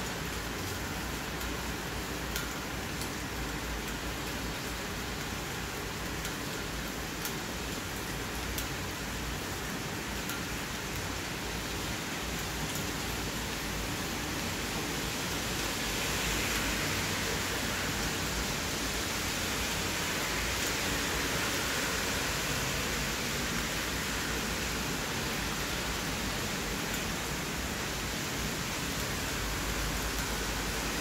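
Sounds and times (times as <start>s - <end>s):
steady rainfall: 0.0s - 31.0s.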